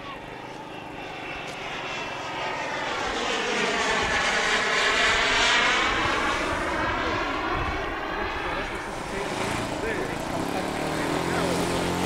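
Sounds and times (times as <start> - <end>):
model jet turbine flying past: 0.0 - 12.0.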